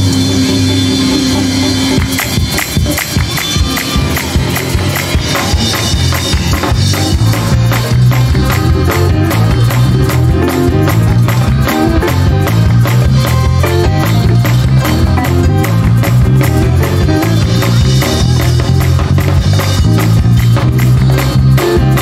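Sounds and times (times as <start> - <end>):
church band playing up-tempo music: 0.0 - 22.0.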